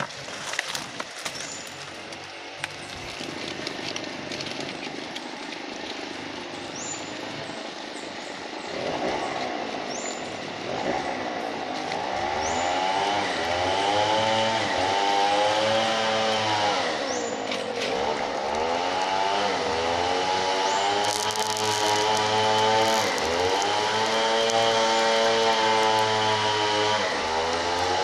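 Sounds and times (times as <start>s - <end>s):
small petrol engine running: 0.0s - 28.0s.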